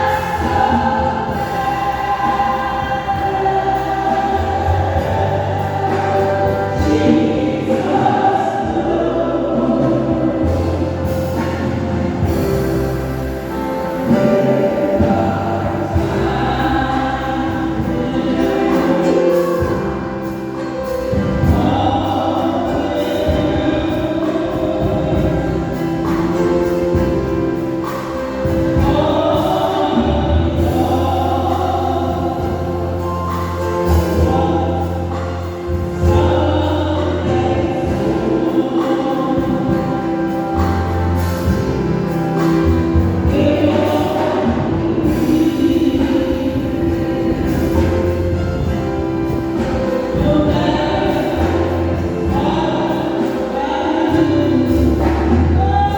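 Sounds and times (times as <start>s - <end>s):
choir singing gospel song: 0.0s - 55.9s
instrumental accompaniment: 0.0s - 55.9s
steady bass line: 0.0s - 55.9s.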